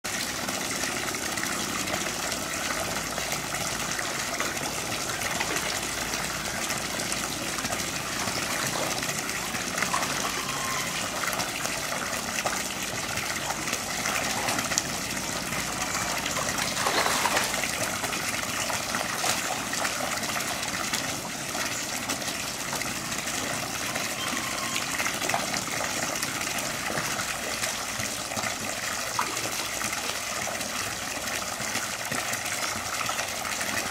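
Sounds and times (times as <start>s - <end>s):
water gushing and splashing: 0.0s - 33.9s.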